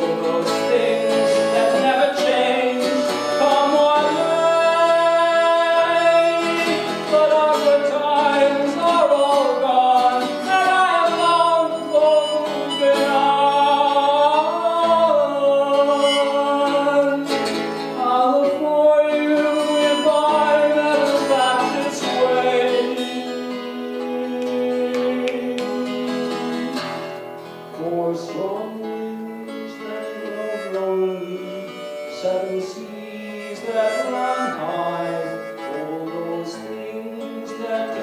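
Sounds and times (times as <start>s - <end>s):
acoustic guitar folk song: 0.0s - 38.0s.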